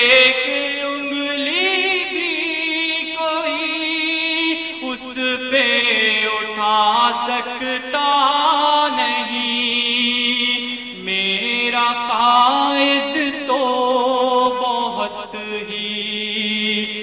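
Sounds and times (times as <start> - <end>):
person singing ornamented phrases: 0.0 - 17.0.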